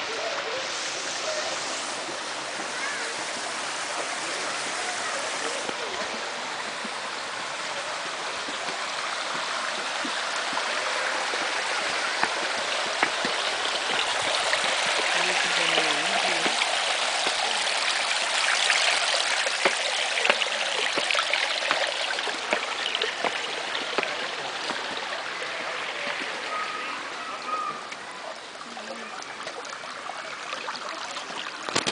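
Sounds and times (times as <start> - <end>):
water rushing and splashing: 0.0 - 31.9.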